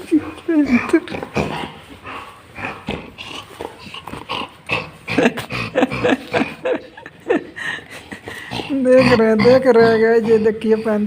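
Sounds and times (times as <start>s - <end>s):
dog vocalizing in play: 0.0s - 7.1s, 8.2s - 11.0s.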